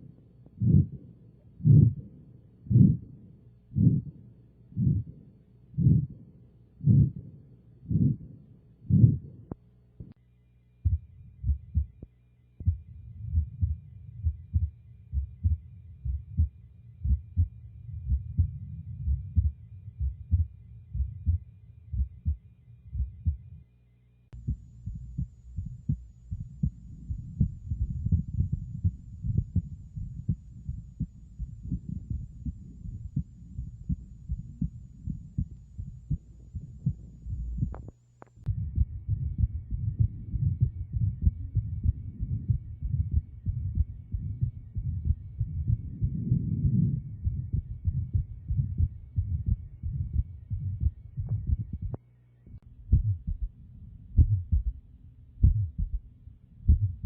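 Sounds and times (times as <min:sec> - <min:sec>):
low-pitched heartbeats: 0:00.0 - 0:10.2, 0:10.8 - 0:23.6, 0:24.4 - 0:57.0.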